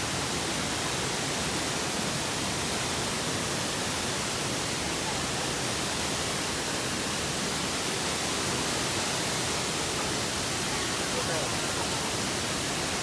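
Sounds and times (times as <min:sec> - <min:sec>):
waterfall rushing: 0:00.1 - 0:13.0.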